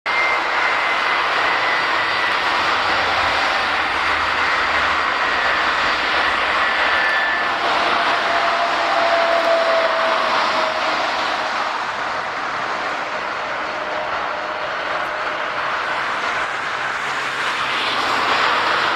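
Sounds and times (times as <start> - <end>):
high engine whine: 0.1 - 18.9
jet engines roaring: 0.1 - 18.9.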